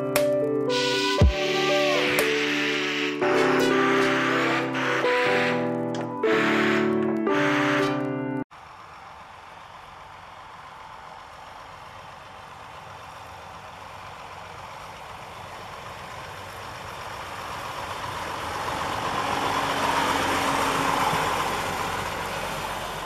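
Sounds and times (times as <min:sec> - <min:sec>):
plow blade pushing snow: 0:00.0 - 0:23.0
tractor engine: 0:00.0 - 0:23.0.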